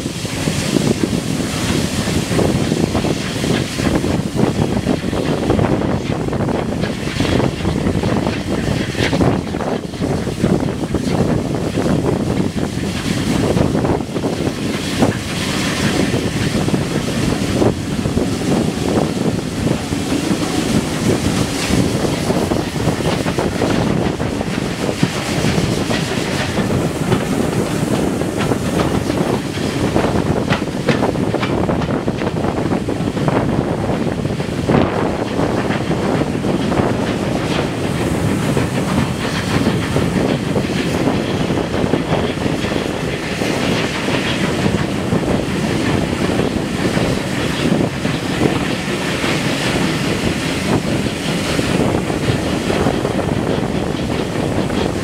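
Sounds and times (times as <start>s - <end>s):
steam locomotive exhaust beats: 0.0s - 55.0s
wind on microphone: 0.0s - 55.0s.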